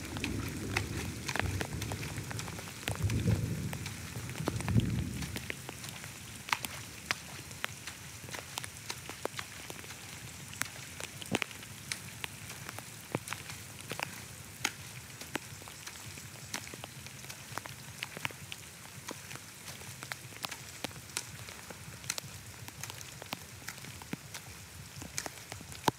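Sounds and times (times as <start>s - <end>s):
water dripping: 0.0s - 25.9s
water splashing and sloshing: 0.0s - 25.9s
crackling taps: 0.1s - 25.9s.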